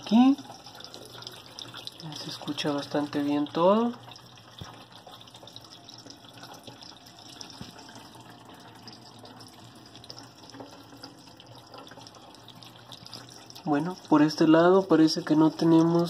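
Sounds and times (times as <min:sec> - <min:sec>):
tap water running into sink: 0:00.0 - 0:16.0.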